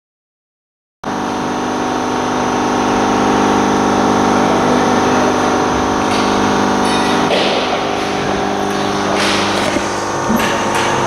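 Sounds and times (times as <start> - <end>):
machinery drone: 1.0 - 11.0.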